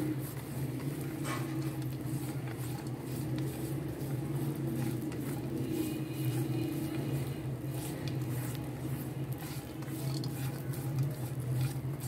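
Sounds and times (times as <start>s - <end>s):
steady low hum: 0.0s - 12.0s
spatula scraping a pan: 1.2s - 12.0s.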